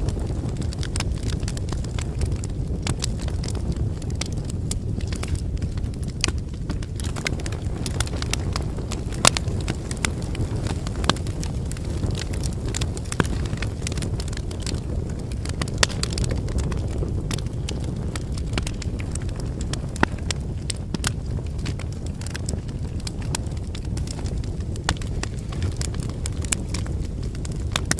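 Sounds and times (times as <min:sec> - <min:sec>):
fire flames rumbling: 0:00.0 - 0:27.9
firewood crackling and popping: 0:00.0 - 0:27.9.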